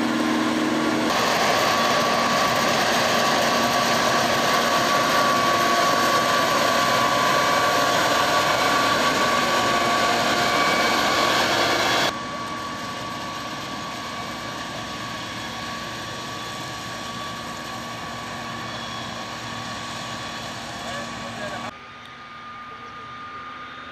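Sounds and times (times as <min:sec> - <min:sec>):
harvester machinery drone: 0:00.0 - 0:23.9
thin steady whine: 0:00.0 - 0:23.9.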